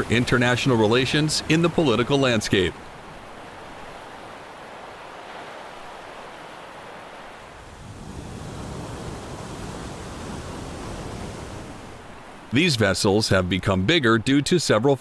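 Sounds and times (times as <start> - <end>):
rushing sea water: 0.0 - 13.8
wind: 0.0 - 15.0.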